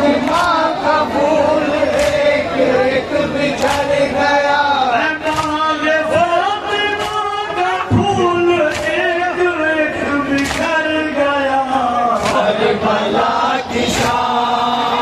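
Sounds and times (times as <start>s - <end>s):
men chanting over loudspeaker: 0.0s - 15.0s.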